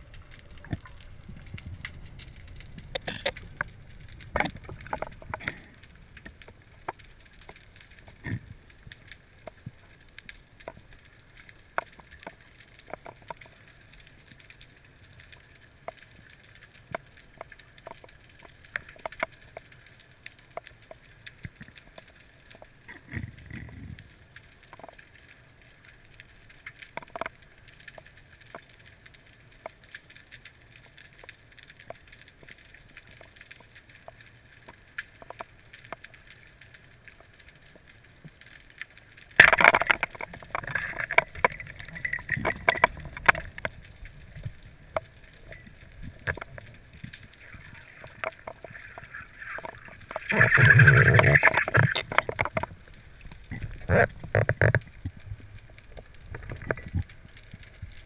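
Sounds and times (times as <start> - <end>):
sharp underwater clicks and snaps: 0.0 - 58.0.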